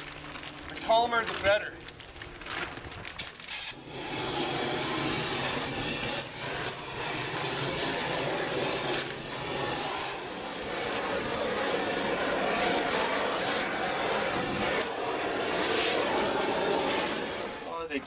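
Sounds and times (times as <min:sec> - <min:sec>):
torch flame roaring: 0:00.0 - 0:18.0.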